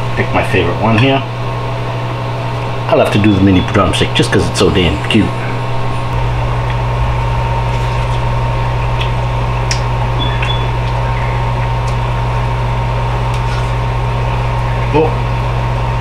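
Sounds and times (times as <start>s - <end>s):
oven fan humming and whirring: 0.0s - 16.0s.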